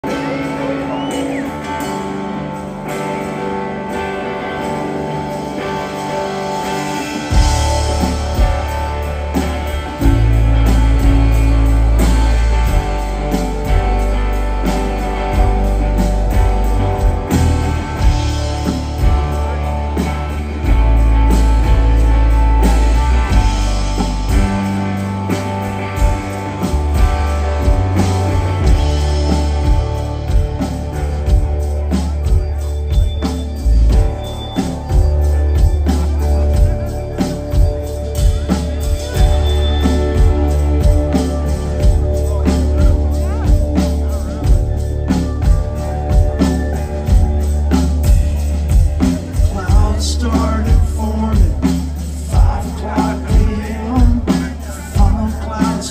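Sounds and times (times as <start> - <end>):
drums: 0.0 - 55.9
electric guitars: 0.0 - 55.9
heavy bass: 4.9 - 55.9.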